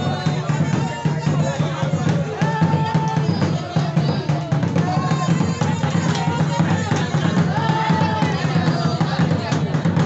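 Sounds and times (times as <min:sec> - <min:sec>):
fast dance drumming: 0:00.0 - 0:10.0.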